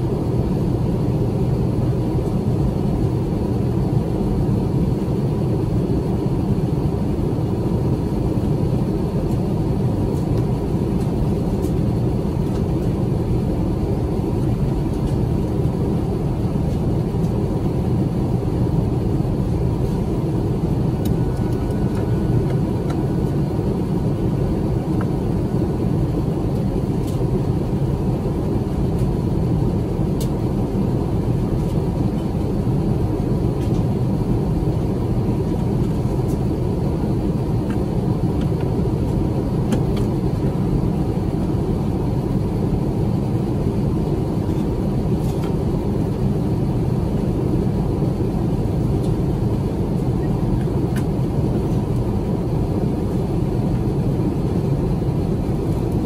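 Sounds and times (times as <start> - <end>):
aircraft cabin engine rumble: 0.0 - 56.0
faint steady hum: 0.0 - 56.0.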